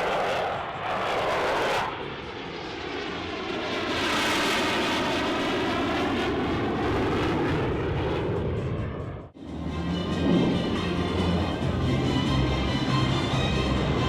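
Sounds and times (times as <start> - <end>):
jet flying past: 0.0 - 14.0.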